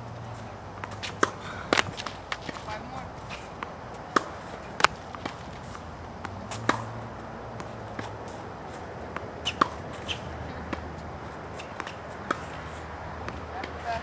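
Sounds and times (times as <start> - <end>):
racket hitting tennis ball: 0.2 - 14.0
ball bouncing on hard court: 0.8 - 14.0.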